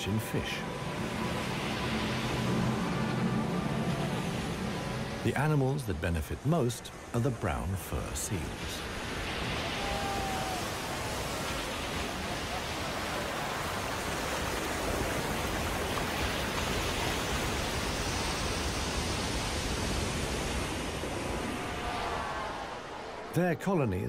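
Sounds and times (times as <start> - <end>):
heavy surf breaking over rocks: 0.0 - 24.0.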